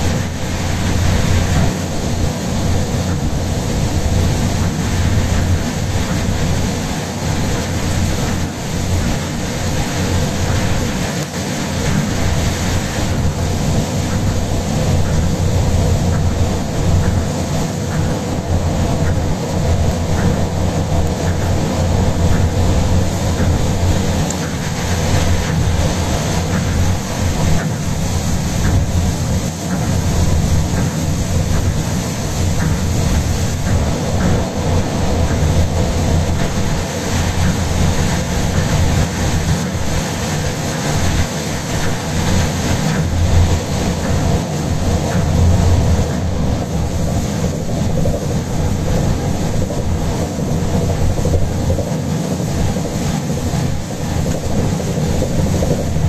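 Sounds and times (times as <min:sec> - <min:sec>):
train running rumble and hiss: 0:00.0 - 0:56.0.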